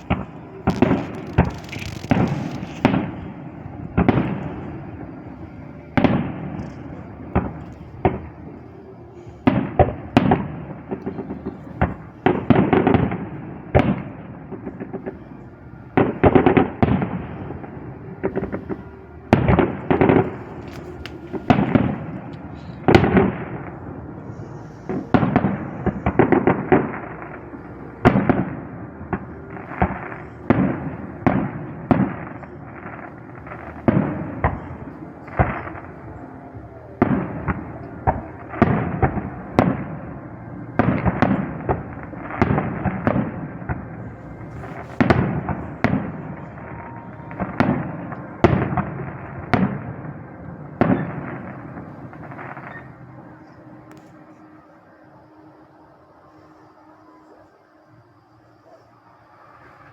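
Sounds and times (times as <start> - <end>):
fireworks bursting: 0.0 - 57.4.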